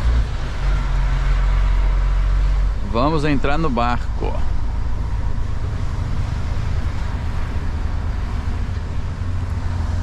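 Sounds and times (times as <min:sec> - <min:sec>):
road and wind noise: 0:00.0 - 0:10.0
truck engine rumble: 0:00.0 - 0:10.0.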